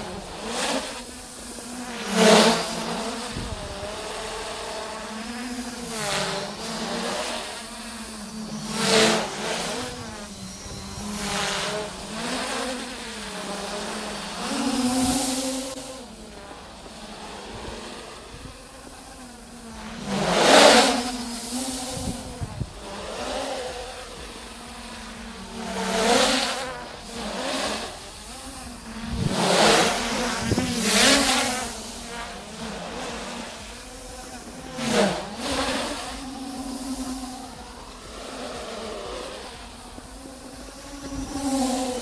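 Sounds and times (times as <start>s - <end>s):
quadcopter propellers buzzing: 0.0s - 42.0s.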